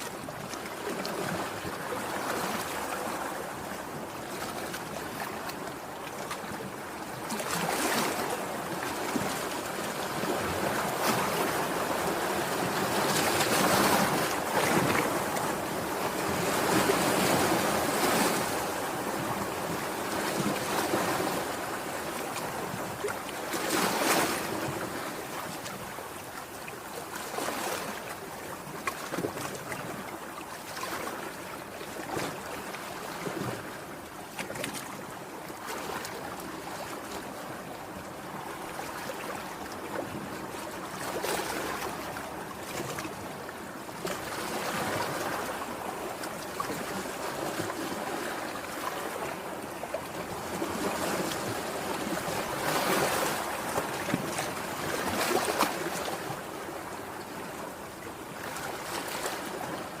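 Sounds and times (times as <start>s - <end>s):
sea waves washing onto shore: 0.0s - 60.0s.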